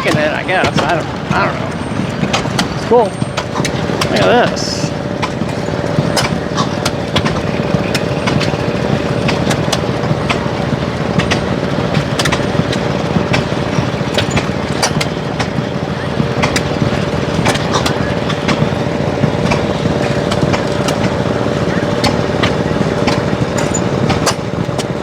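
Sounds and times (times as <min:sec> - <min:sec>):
sharp clicks and knocks: 0:00.0 - 0:01.4, 0:02.0 - 0:15.6, 0:16.3 - 0:25.0
small engine whining: 0:00.0 - 0:25.0.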